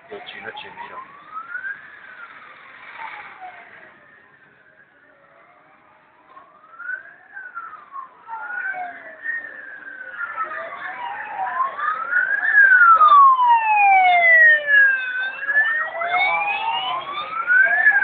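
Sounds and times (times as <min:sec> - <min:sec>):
emergency sirens wailing: 0:00.0 - 0:18.0.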